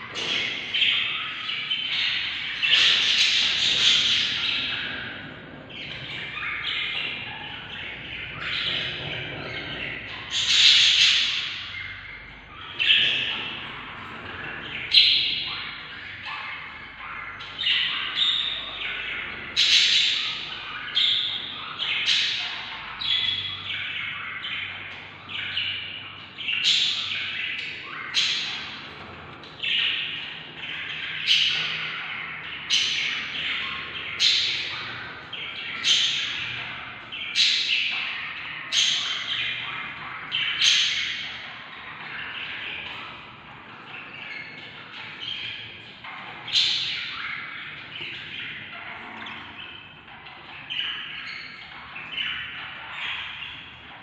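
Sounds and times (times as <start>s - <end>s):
budgerigar chicks squawking: 0.0s - 54.0s.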